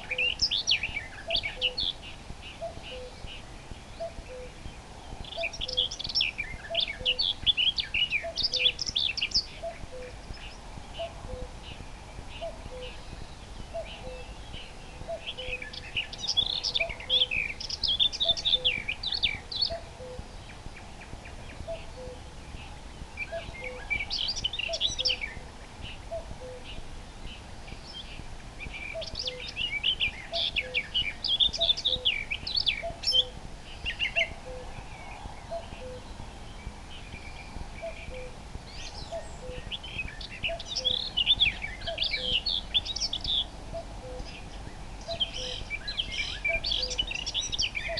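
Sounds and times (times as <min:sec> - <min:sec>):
cuckoo calling: 0:00.0 - 0:04.6, 0:05.2 - 0:20.6, 0:21.4 - 0:26.8, 0:27.7 - 0:36.2, 0:37.8 - 0:47.9
nightingale singing: 0:00.0 - 0:47.9.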